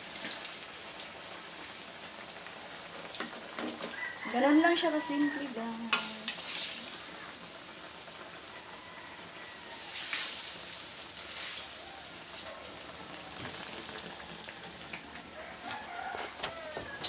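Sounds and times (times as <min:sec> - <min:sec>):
banana slices sizzling in oil: 0:00.0 - 0:17.0.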